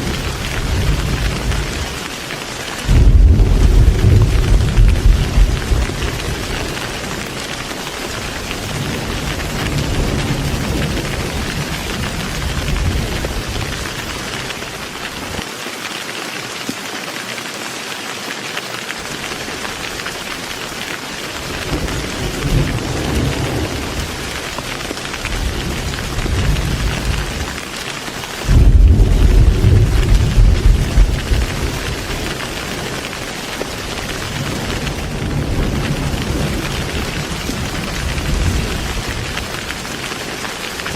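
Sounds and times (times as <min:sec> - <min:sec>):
thunder rumbling: 0:00.0 - 0:02.2, 0:02.8 - 0:15.4, 0:21.4 - 0:27.6, 0:28.4 - 0:40.9
heavy rain: 0:00.0 - 0:40.9.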